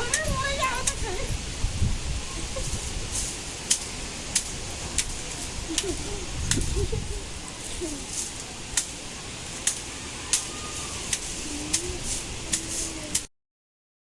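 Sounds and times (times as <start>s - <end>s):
steady rain: 0.0s - 13.3s
wind: 0.0s - 13.3s.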